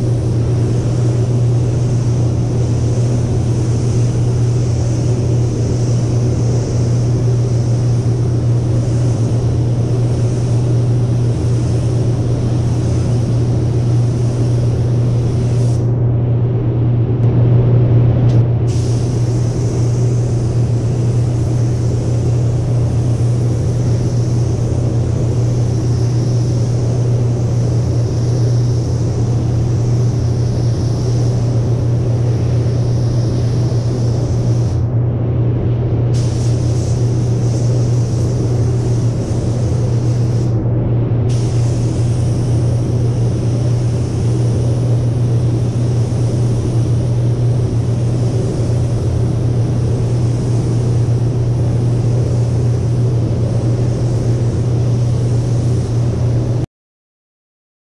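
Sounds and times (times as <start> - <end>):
paint spray gun hissing: 0.0 - 15.9, 18.7 - 34.9, 36.1 - 40.6, 41.3 - 56.6
ventilation fans rumbling: 0.0 - 56.7.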